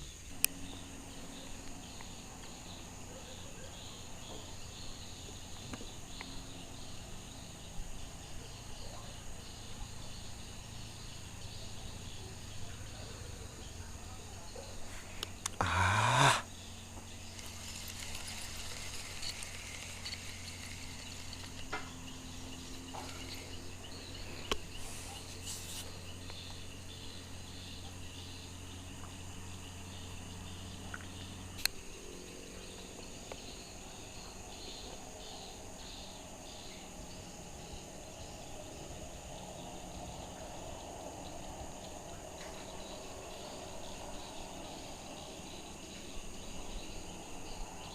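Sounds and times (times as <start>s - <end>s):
insects chirring: 0.0s - 47.9s
low steady hum: 0.0s - 47.9s.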